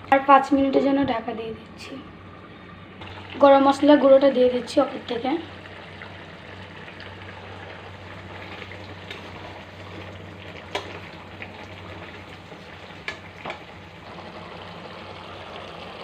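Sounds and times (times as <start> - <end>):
fish sizzling and bubbling in pan: 2.1 - 16.0.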